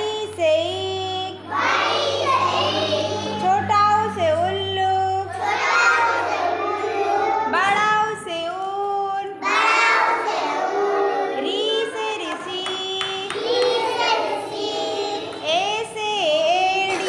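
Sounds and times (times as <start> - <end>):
children singing: 0.0 - 7.9, 9.2 - 15.7.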